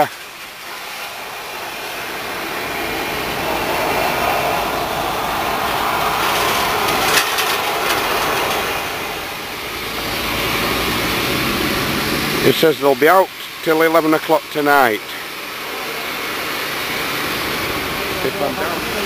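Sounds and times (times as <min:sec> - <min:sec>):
water spray rushing off hull: 0:00.0 - 0:19.0.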